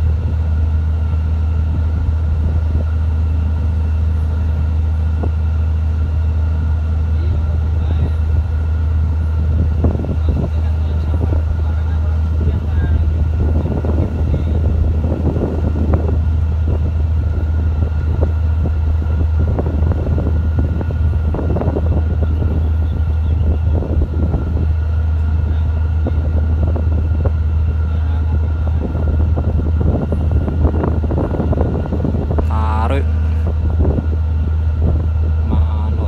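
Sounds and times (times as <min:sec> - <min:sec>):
boat diesel engine droning: 0:00.0 - 0:36.0.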